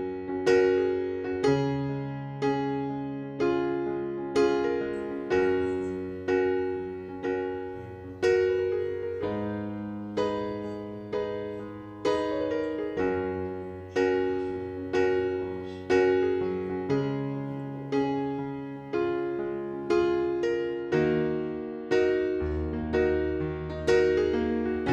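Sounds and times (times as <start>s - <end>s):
slow piano music: 0.0s - 24.9s.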